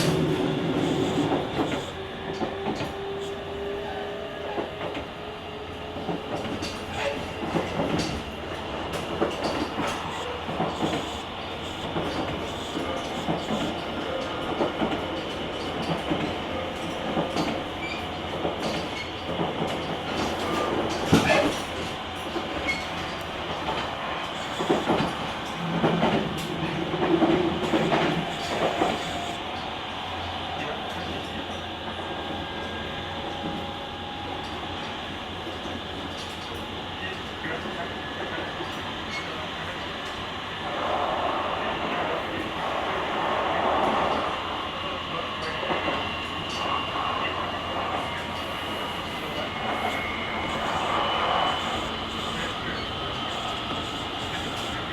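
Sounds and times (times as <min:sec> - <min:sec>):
train wheel and rail rumble: 0:00.0 - 0:54.9.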